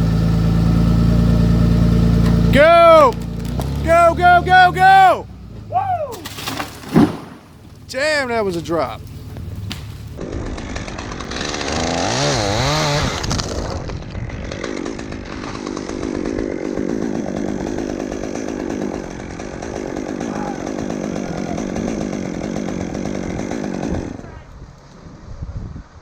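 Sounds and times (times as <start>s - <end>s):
chainsaw cutting wood: 0.5s - 5.2s, 6.1s - 24.2s.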